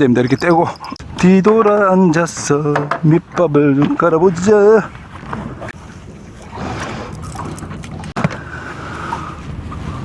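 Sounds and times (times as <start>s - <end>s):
boat noise: 0.0s - 10.0s
wind rumble: 0.0s - 10.0s.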